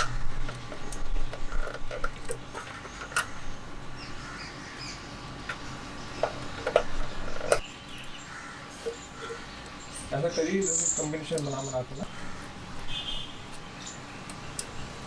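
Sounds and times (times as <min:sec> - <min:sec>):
sharp clicks and knocks: 0:00.0 - 0:10.1, 0:10.8 - 0:15.0.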